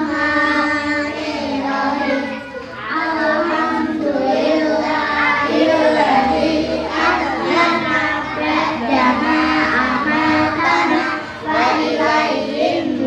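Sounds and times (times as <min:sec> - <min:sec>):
children chanting prayers in unison: 0:00.0 - 0:13.0.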